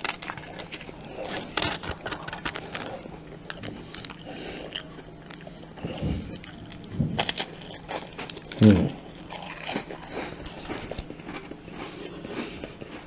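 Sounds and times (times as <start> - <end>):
chewing and crunching cracker: 0.0 - 13.0.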